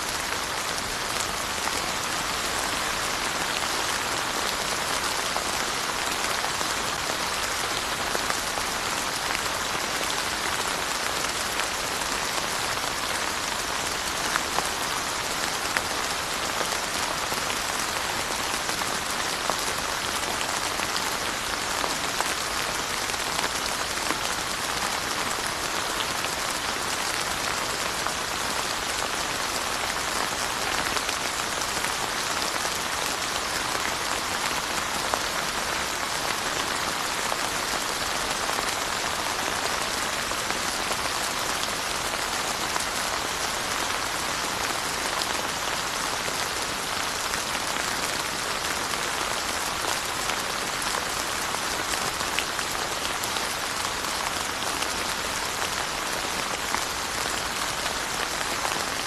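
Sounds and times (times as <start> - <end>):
rain pattering on surfaces: 0.1 - 59.0.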